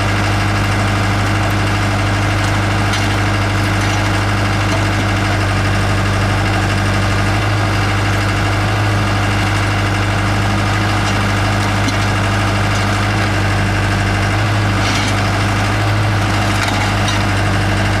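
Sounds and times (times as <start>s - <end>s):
loader engine humming: 0.0s - 18.0s.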